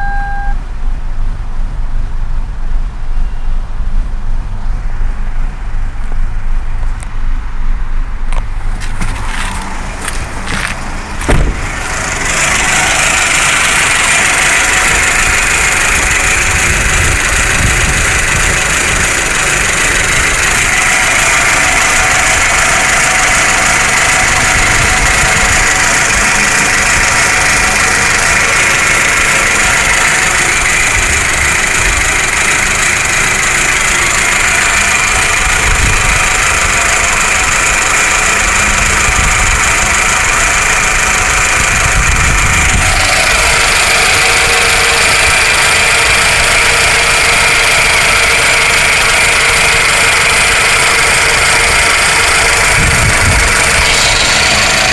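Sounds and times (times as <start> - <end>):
car engine idling roughly: 8.3 - 54.9.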